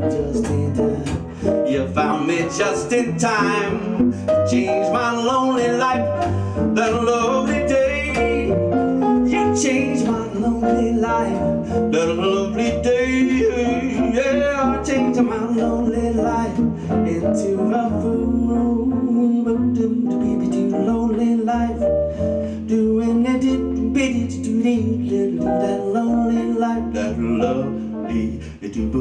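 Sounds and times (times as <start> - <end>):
swing jazz band: 0.0 - 29.0.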